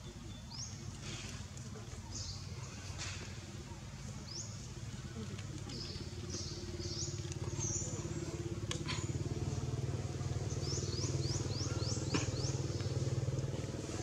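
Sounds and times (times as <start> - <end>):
motor engine running: 0.8 - 14.0.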